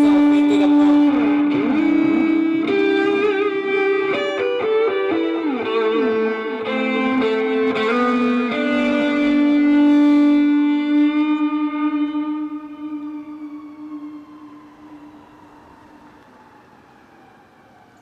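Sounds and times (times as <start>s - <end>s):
electric guitar sustained notes: 0.0s - 16.6s.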